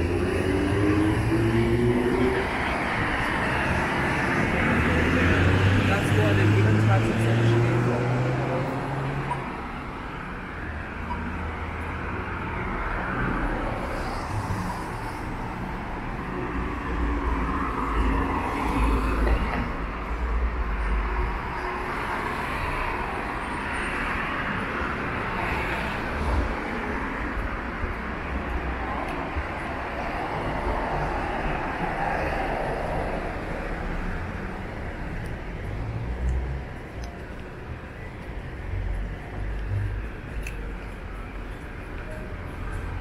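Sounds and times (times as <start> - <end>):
road traffic hum: 0.0 - 43.0.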